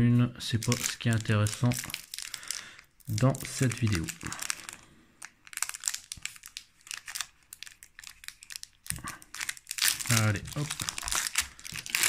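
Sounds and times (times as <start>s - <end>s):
foil wrapper crinkling: 0.6s - 12.0s.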